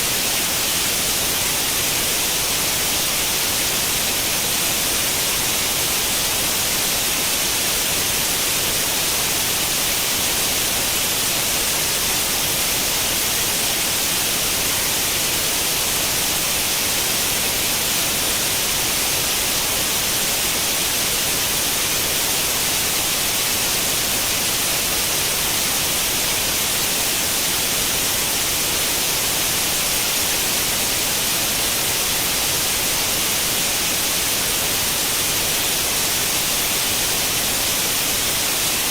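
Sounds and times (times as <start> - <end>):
television static hiss: 0.0 - 38.9.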